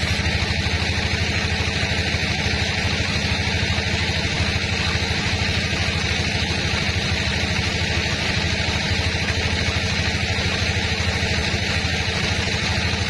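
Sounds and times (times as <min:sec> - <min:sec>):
sawmill machinery throbbing: 0:00.0 - 0:13.0.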